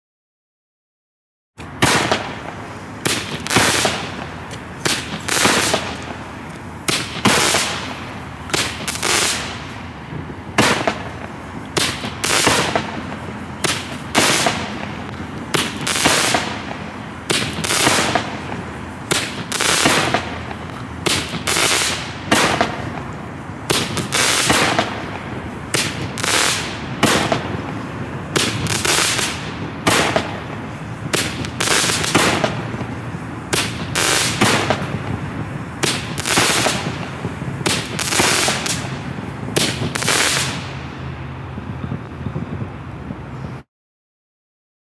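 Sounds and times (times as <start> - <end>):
fireworks shots and bursts: 1.6 - 42.6.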